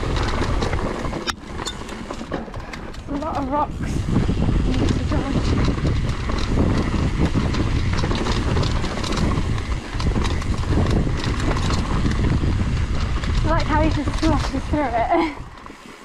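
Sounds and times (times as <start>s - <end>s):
bike knocks and rattles: 0.0s - 15.9s
mountain bike rumbling: 0.0s - 16.0s.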